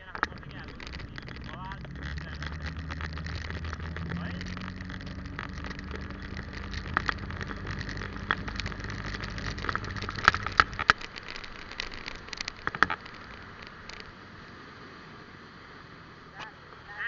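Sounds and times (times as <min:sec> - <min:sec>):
sharp clicks and crackles: 0:00.0 - 0:14.3
vehicle engine humming: 0:00.0 - 0:17.0.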